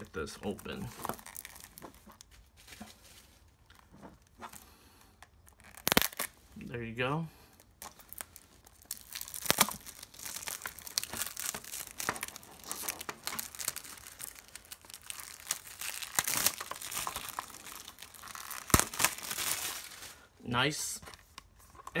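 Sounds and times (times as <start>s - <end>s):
plastic shrink-wrap crinkling: 0.0s - 6.6s, 7.5s - 20.4s.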